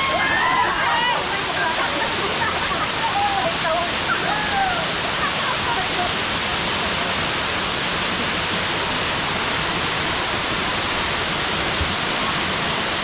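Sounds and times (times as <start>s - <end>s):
waterfall pouring: 0.0s - 13.0s.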